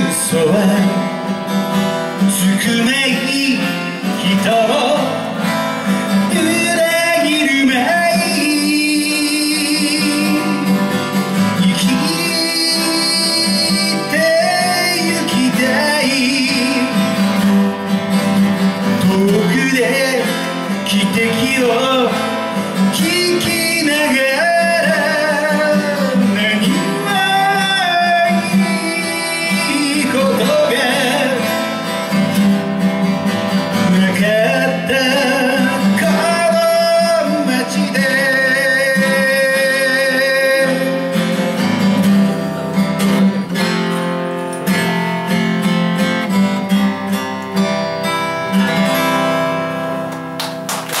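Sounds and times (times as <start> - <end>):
person singing folk song: 0.0 - 43.7
acoustic guitar strumming: 0.0 - 51.0.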